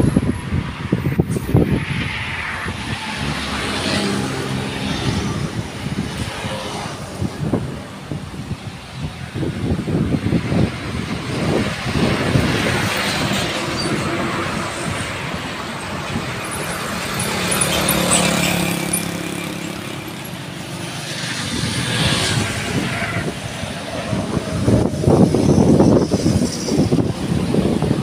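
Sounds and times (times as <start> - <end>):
vehicles passing by: 0.0 - 28.0.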